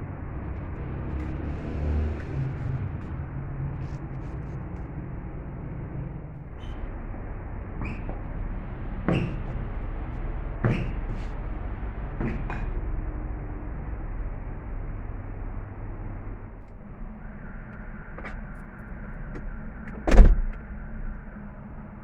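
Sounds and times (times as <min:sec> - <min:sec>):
vehicle rumble: 0:00.0 - 0:22.0.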